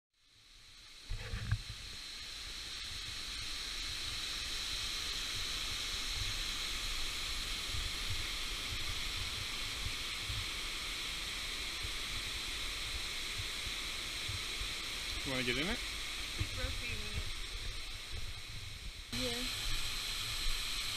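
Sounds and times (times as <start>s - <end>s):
waterfall hiss: 0.2s - 20.9s.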